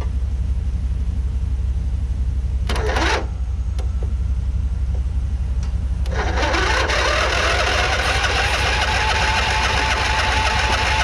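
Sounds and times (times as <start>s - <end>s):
low engine idle: 0.0s - 11.0s.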